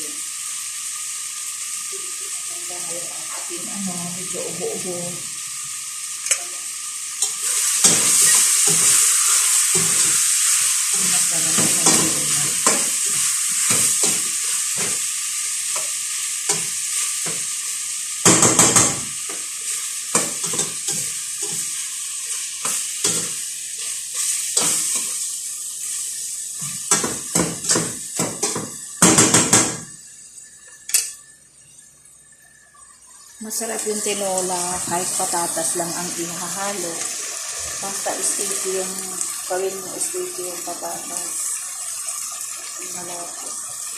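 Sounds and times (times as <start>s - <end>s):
food sizzling in oil: 0.0s - 43.9s.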